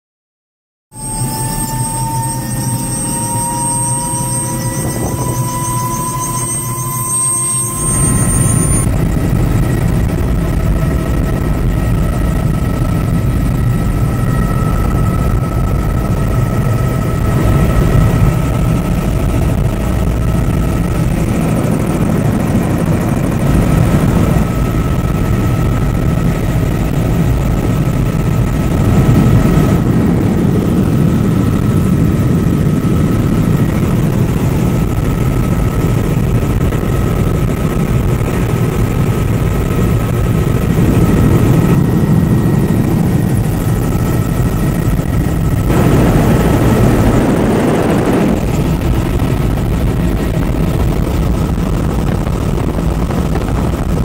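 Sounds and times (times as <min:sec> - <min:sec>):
helicopter rotor and engine noise: 0:00.9 - 0:54.0
high whine: 0:00.9 - 0:54.0.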